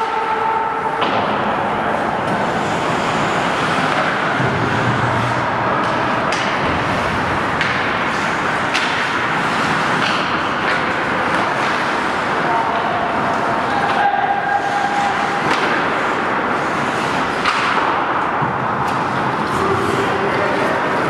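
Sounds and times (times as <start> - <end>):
hockey sticks and puck clacking: 0.0 - 21.0
skates carving ice: 0.0 - 21.0.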